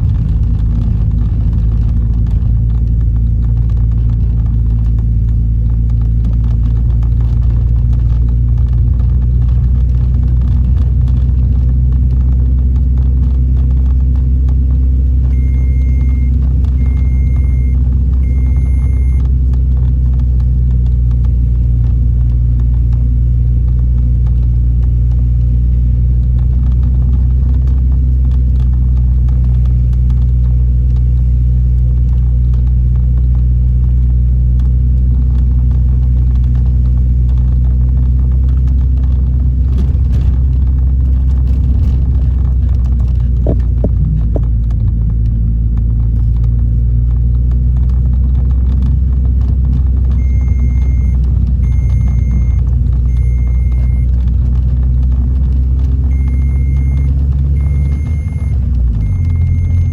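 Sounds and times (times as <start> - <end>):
car engine rumble: 0.0 - 59.9
road noise inside car: 0.0 - 59.9.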